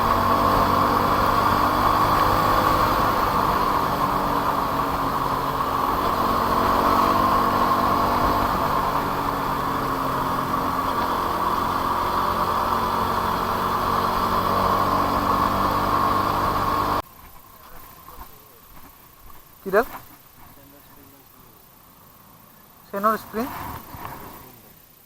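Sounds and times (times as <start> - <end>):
motorcycle engine running: 0.0 - 25.0
road and wind noise: 0.0 - 25.0.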